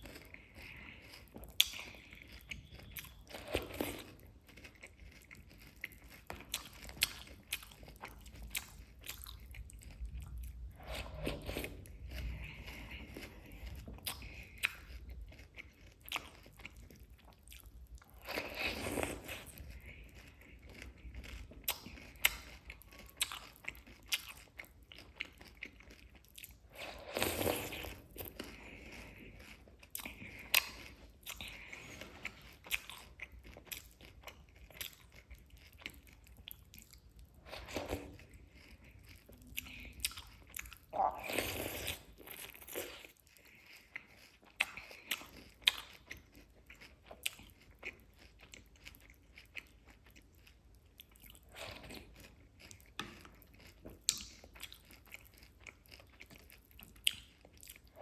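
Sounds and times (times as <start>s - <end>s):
person chewing and crunching: 0.0s - 58.0s.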